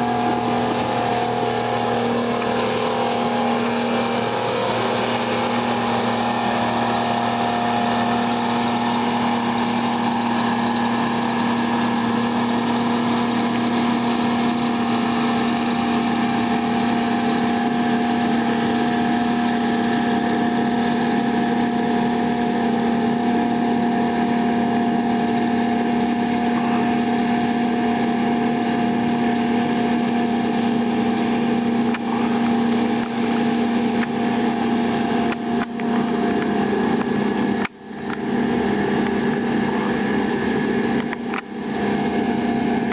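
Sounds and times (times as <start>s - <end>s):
tracked vehicle engine running: 0.0s - 42.9s.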